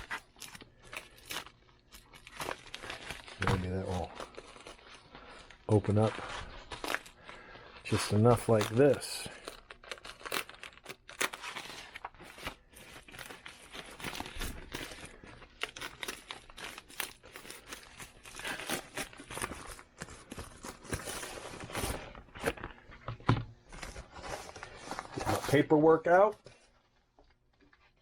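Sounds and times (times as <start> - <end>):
sharp crackles of wrapping: 0.0 - 22.6
wrapping crinkling and rustling: 0.0 - 28.0.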